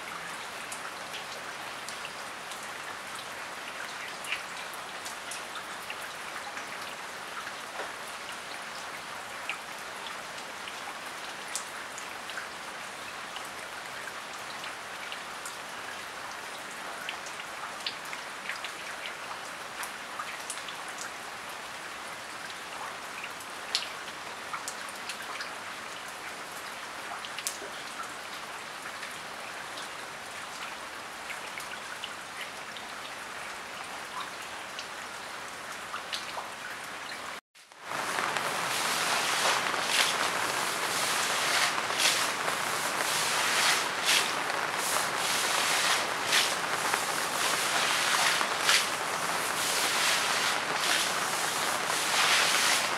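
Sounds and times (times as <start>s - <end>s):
steady rain hiss: 0.0s - 31.5s, 36.8s - 52.9s.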